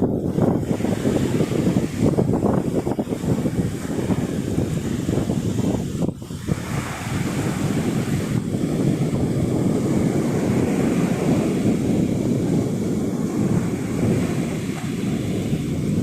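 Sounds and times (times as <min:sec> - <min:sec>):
sea surf on beach: 0:00.0 - 0:16.0
wind buffeting microphone: 0:00.0 - 0:16.0.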